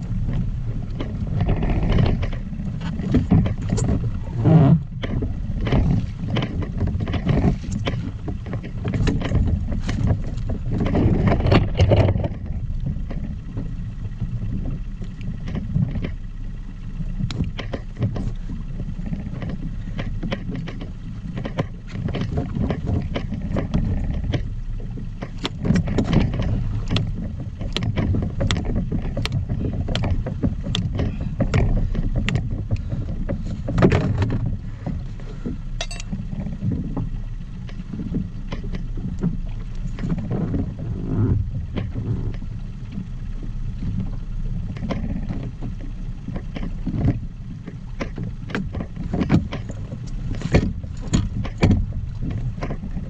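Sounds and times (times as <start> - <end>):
low rumble of wind and sea: 0.0 - 53.0
water splashing against boat: 0.0 - 53.0
knocks on boat: 0.2 - 14.7, 17.2 - 37.0, 44.7 - 53.0.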